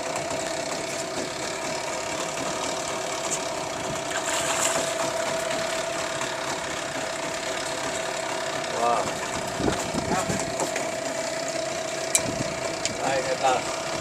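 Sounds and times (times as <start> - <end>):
engine whining and humming: 0.0 - 14.0.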